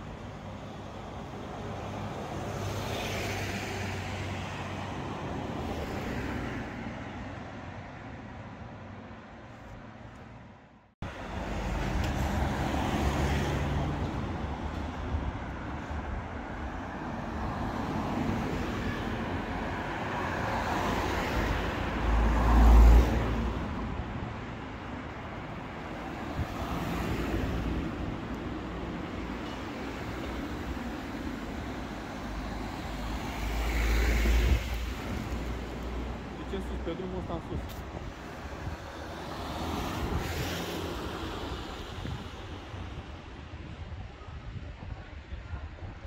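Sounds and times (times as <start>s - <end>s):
cars passing: 0.0s - 44.9s.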